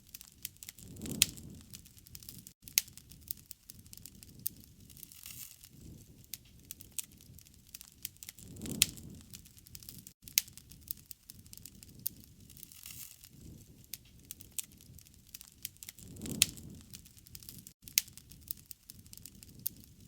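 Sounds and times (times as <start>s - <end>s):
campfire crackling and popping: 0.0s - 20.0s
low rumble of flames: 0.1s - 20.0s.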